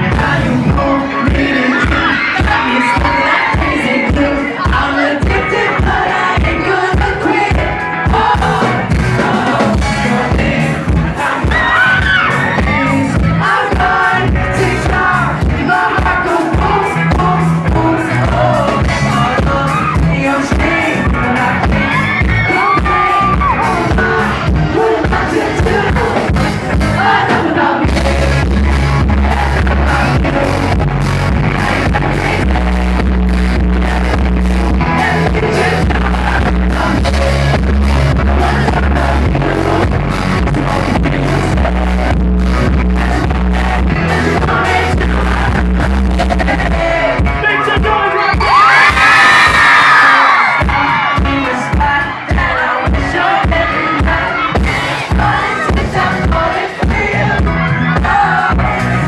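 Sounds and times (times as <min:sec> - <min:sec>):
pop music with singing: 0:00.0 - 0:59.0.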